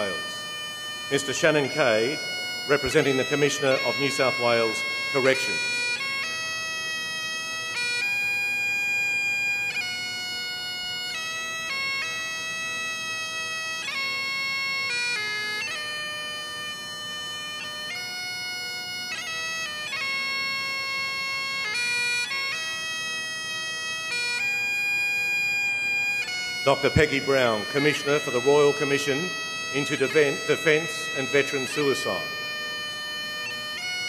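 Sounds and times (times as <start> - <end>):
bagpipes playing slow tune: 0.0 - 34.0.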